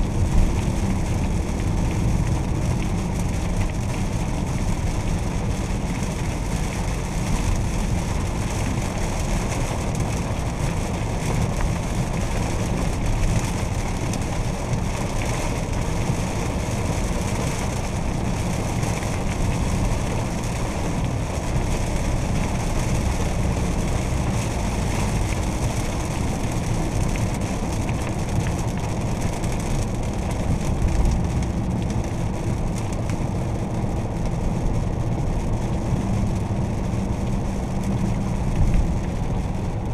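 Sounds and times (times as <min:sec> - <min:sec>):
car engine and tyre drone: 0:00.0 - 0:39.9
tyres hissing on wet road: 0:00.0 - 0:39.9.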